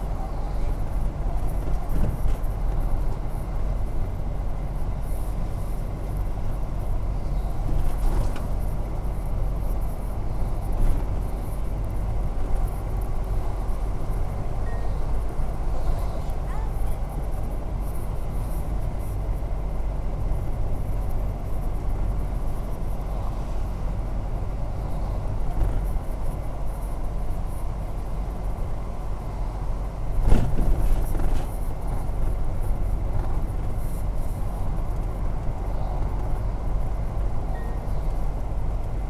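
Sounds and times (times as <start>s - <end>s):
car road noise on wet road: 0.0s - 39.0s.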